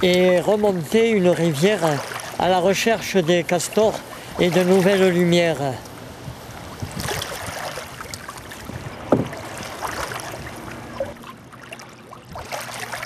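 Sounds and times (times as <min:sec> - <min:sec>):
paddle splashing in water: 0:00.0 - 0:13.0.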